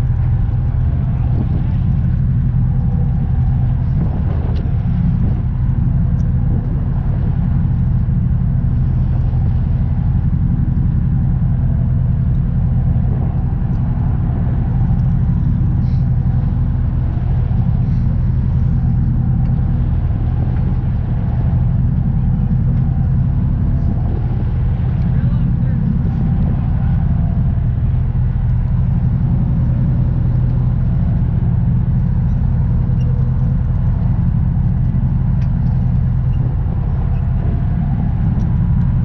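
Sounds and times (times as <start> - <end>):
engine running with low hum: 0.0 - 39.0.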